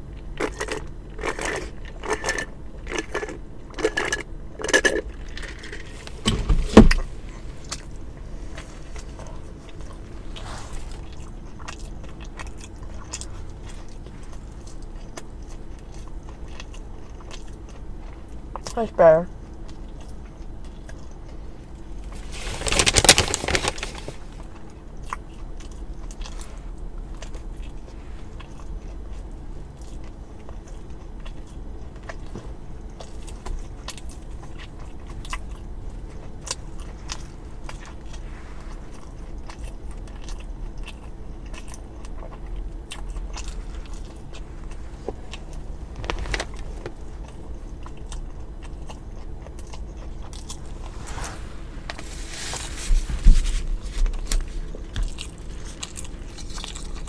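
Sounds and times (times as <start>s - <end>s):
wet chewing: 0.2s - 18.8s, 19.4s - 57.0s.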